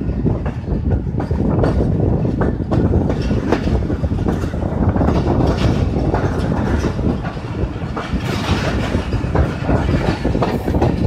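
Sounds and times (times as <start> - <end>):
clacks over rail joints: 0.0 - 11.0
train wheels rumbling on rails: 0.0 - 11.0.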